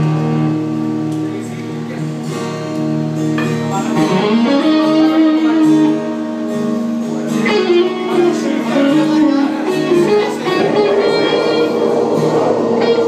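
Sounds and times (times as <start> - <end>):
acoustic guitar: 0.0 - 13.0
electric guitar: 0.0 - 13.0.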